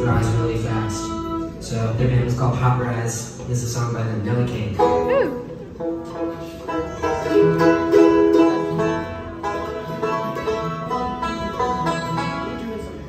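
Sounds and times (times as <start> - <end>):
banjo picking rapid notes: 0.0 - 13.0
bluegrass band playing: 0.0 - 13.0.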